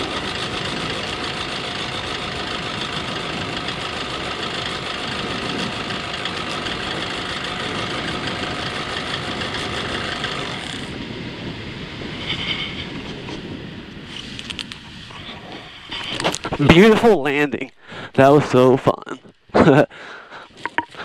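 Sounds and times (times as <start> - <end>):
paramotor engine and propeller: 0.0 - 21.0.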